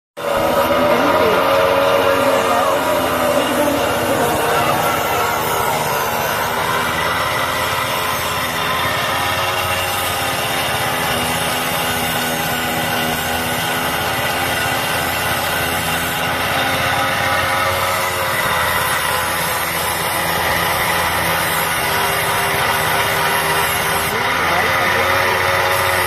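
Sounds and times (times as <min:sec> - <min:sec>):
knife blade rasping on grinding wheel: 0:00.2 - 0:26.0
small motorcycle engine running: 0:00.2 - 0:26.0.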